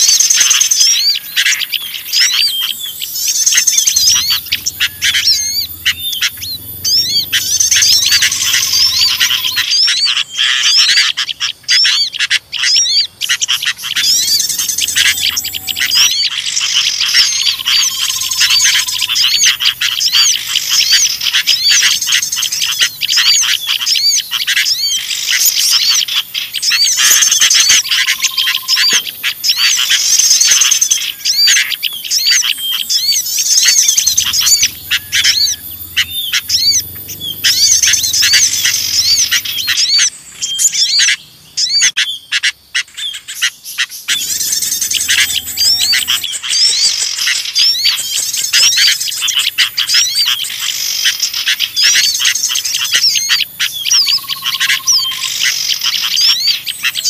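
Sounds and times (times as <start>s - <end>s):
bulbul calls: 0.0s - 57.0s
small songbirds chattering: 0.0s - 57.0s.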